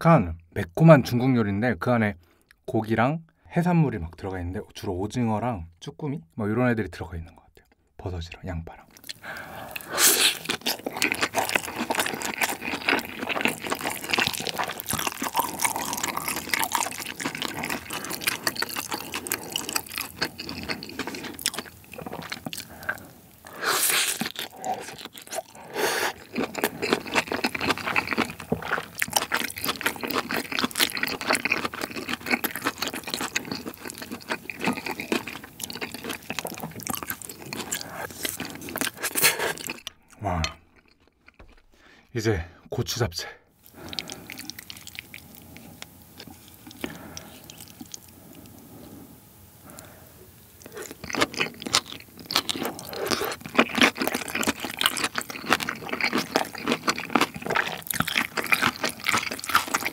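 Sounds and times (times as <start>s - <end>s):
close chewing of food: 8.9s - 42.1s, 43.6s - 59.9s.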